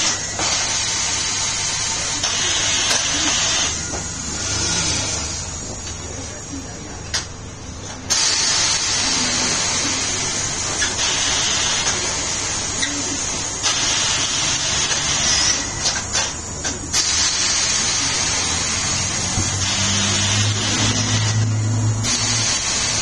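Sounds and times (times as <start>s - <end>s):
compressed air hissing: 0.0s - 5.7s, 8.1s - 23.0s.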